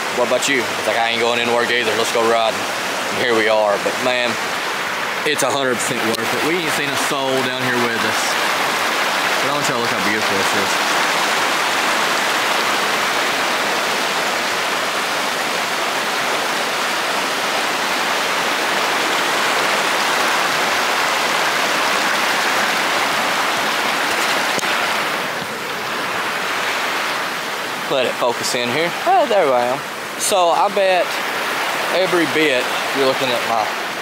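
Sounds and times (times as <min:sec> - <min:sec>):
creek water rushing over rapids: 0:00.0 - 0:34.0.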